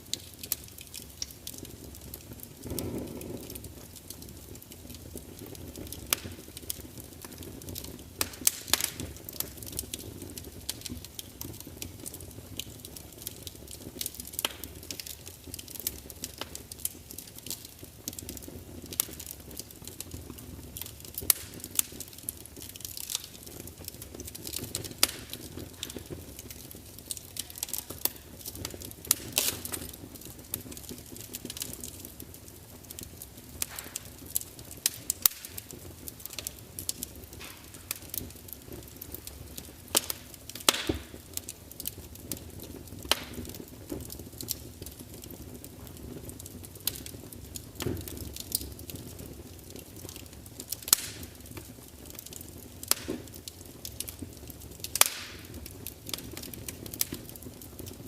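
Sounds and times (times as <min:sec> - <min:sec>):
flames rumbling: 0:00.0 - 0:58.0
wood fire crackling: 0:00.0 - 0:58.0.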